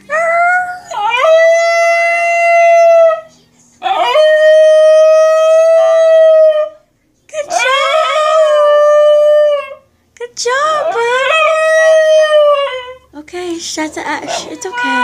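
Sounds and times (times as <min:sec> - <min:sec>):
dog howling: 0:00.1 - 0:06.8, 0:07.4 - 0:09.8, 0:10.7 - 0:13.1, 0:14.0 - 0:15.0.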